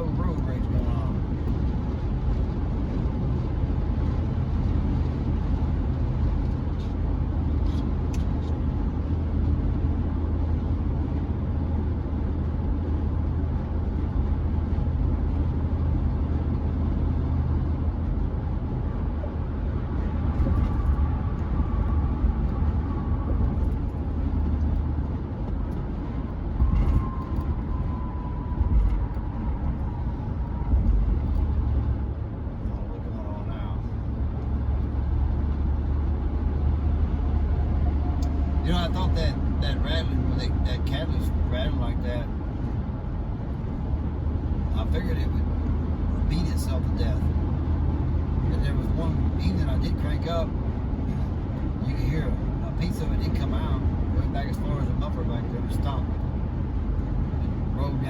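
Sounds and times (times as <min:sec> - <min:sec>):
engine and road drone in cab: 0:00.0 - 0:58.0.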